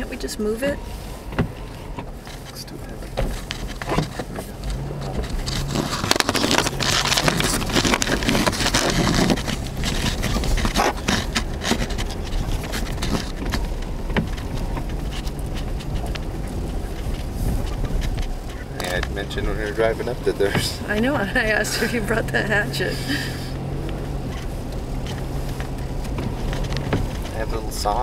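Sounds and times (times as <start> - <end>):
vehicle low rumble: 0.0 - 28.0
branch scraping and cracking: 3.3 - 21.1, 23.1 - 28.0.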